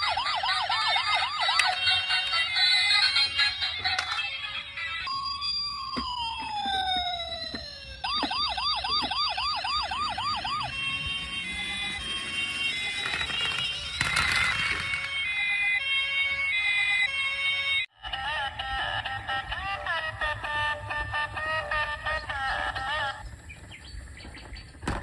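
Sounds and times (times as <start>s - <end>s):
electronic siren wail: 0.0s - 23.4s
warbling siren yelp: 0.0s - 23.4s.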